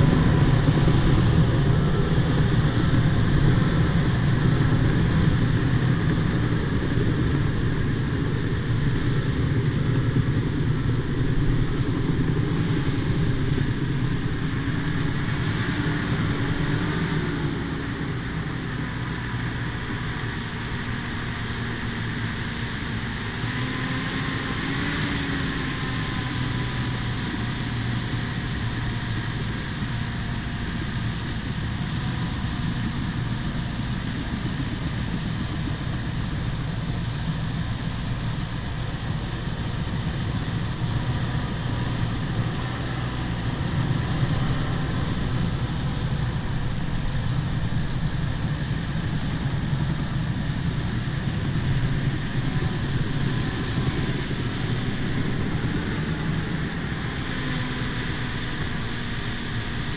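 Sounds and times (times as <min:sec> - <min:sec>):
bulldozer diesel engine running: 0:00.0 - 0:59.9
faint whine: 0:00.0 - 0:59.9.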